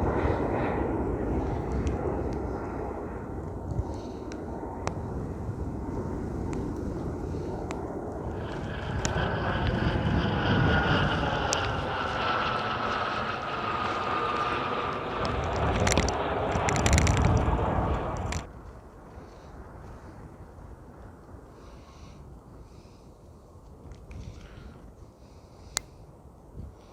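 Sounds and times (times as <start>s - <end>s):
airliner engine whine: 0.0s - 26.9s
wind buffeting microphone: 0.0s - 26.9s.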